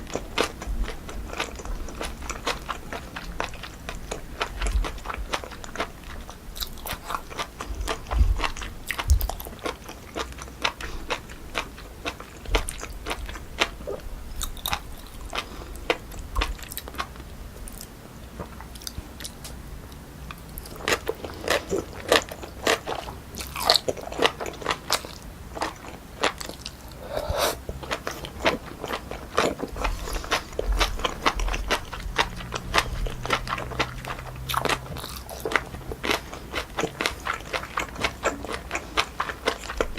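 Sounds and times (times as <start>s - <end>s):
close chewing with sharp crunches: 0.0s - 39.9s.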